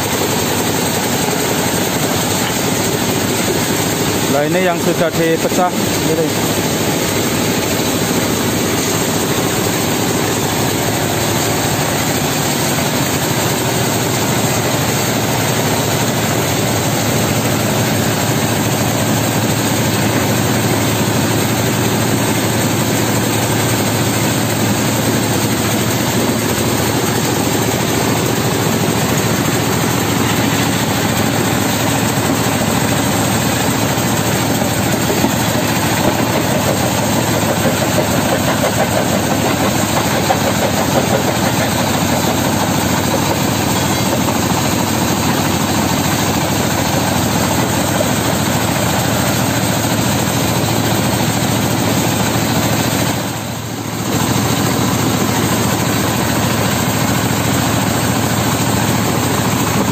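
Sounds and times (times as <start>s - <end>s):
stone crusher and engine running: 0.0s - 59.9s.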